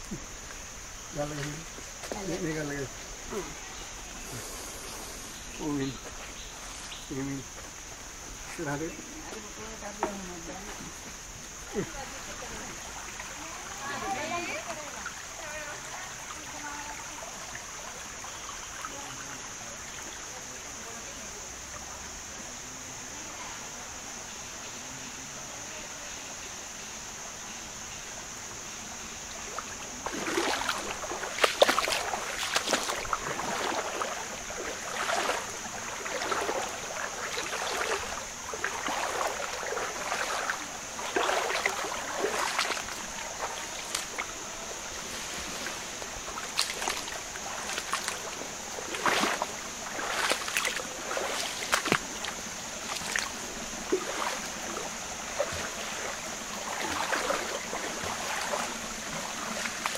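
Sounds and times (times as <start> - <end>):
footsteps wading through water: 0.0 - 19.1, 29.4 - 59.9.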